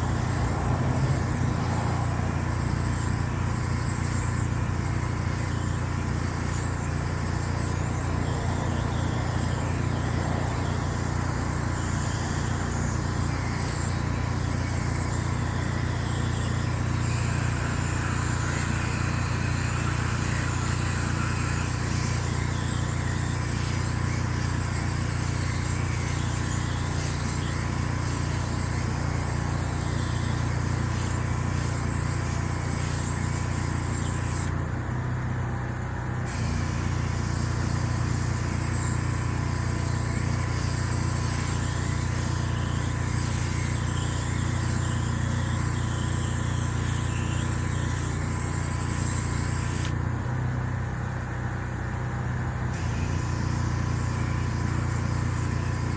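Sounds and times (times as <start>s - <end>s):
engine droning with high whine: 0.0s - 55.9s.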